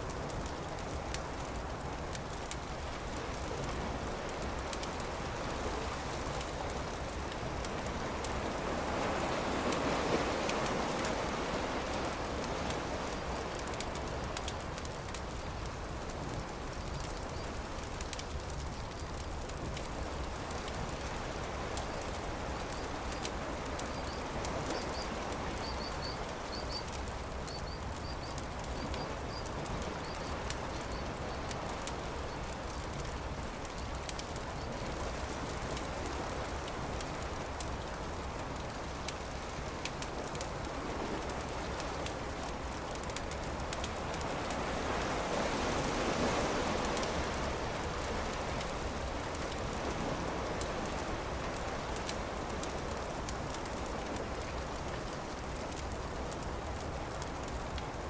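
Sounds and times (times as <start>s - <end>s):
campfire crackling and popping: 0.0s - 45.2s, 45.8s - 58.0s.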